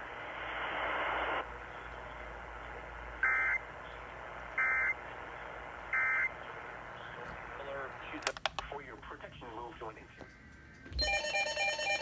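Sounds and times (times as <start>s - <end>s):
steady broadcast hiss: 0.0s - 11.0s.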